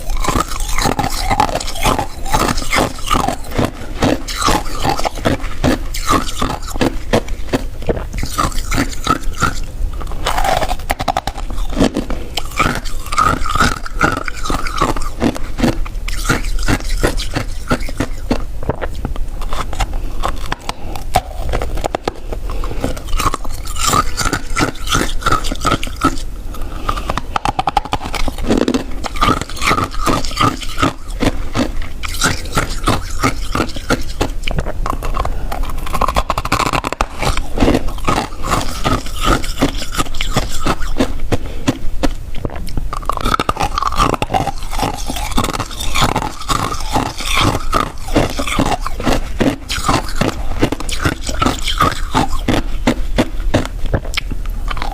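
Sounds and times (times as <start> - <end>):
chewing crunchy frost: 0.0 - 54.9.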